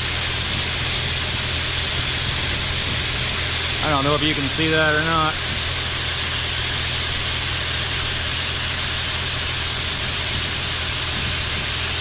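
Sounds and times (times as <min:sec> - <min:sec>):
grain bin equipment humming: 0:00.0 - 0:12.0
steady hiss: 0:00.0 - 0:12.0.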